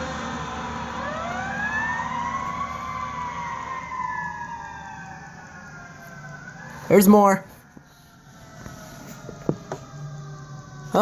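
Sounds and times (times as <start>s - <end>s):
mechanical siren wailing: 0.0s - 11.0s.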